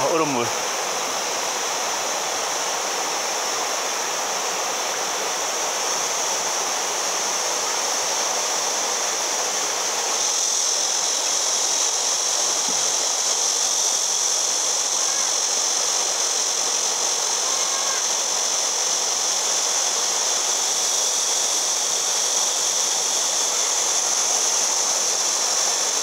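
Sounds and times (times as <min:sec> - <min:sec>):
flowing water rushing: 0:00.0 - 0:26.0.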